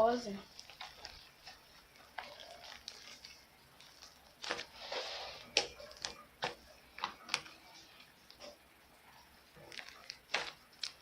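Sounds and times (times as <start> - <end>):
slime squelch: 0.0 - 11.0.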